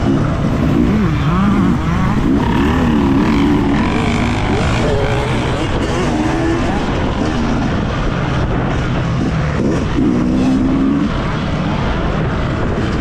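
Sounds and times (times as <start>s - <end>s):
motocross bike engine: 0.0s - 13.0s
wind rush on microphone: 0.0s - 13.0s.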